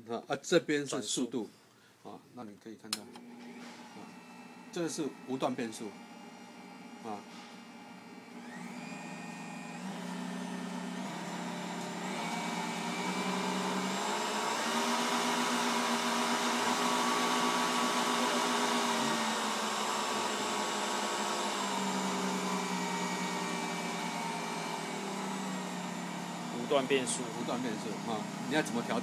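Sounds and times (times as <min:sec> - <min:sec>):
stand mixer motor running: 0:03.1 - 0:29.0.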